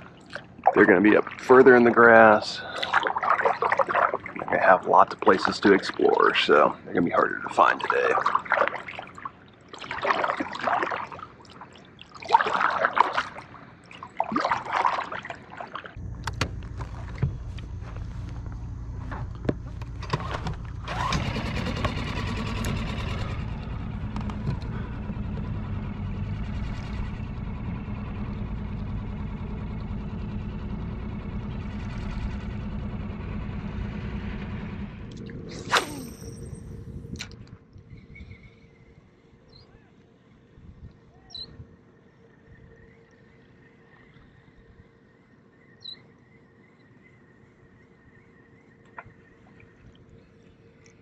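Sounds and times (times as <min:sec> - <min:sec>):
outboard motor rumbling: 0:00.0 - 0:51.0.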